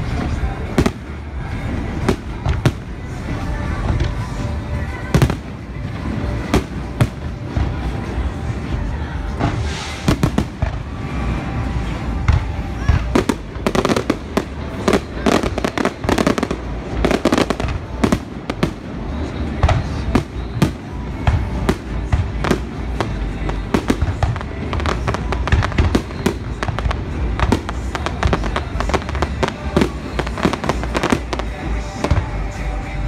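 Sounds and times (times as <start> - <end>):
fireworks bangs and pops: 0.0 - 32.6.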